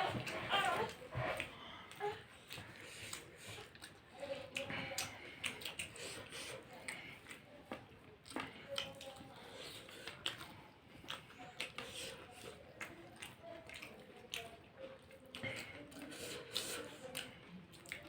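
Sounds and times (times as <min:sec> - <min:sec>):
people chewing crunchy snacks: 0:00.0 - 0:18.0.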